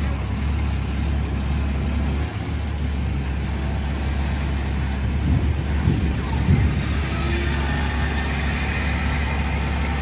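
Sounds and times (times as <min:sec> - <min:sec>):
truck engine droning: 0:00.0 - 0:10.0.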